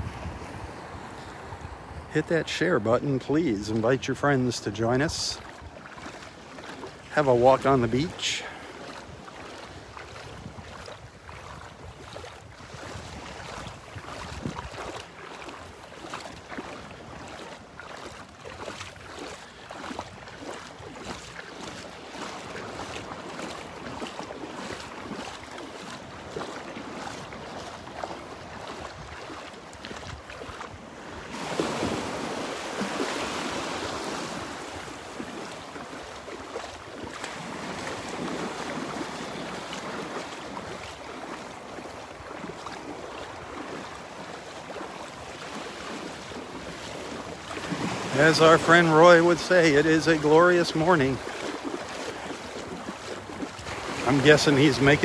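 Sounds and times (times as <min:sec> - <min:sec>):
waves lapping at shoreline: 0:00.0 - 0:55.0.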